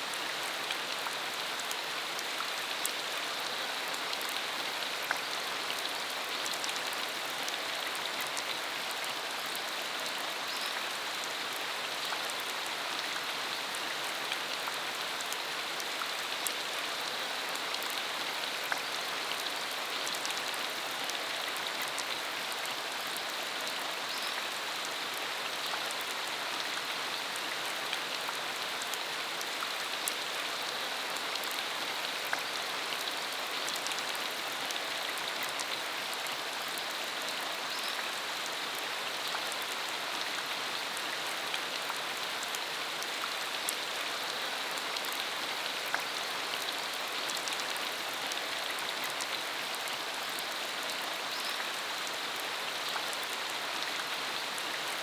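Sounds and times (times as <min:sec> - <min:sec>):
rain falling on dirt road: 0:00.0 - 0:55.0.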